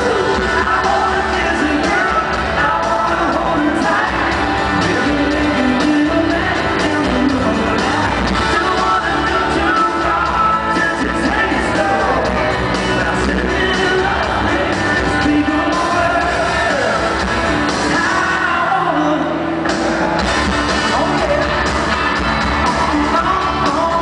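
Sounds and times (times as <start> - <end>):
live country-rock band playing: 0.0 - 24.0
man singing: 0.0 - 24.0.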